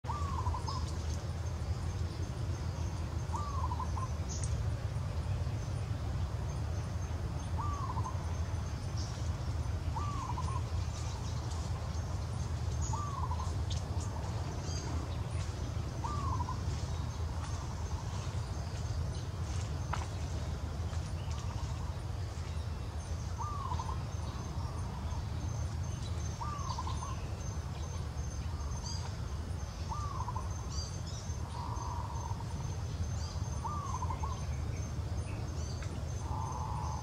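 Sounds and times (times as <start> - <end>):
steady low rumble: 0.1 - 37.0.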